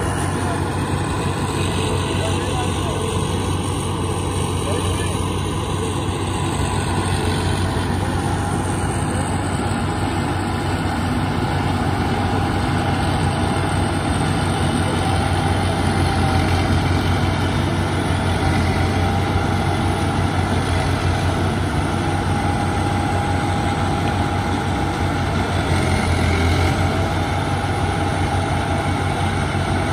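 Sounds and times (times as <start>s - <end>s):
heavy engine drone: 0.0s - 29.9s
thin steady whine: 0.0s - 29.9s.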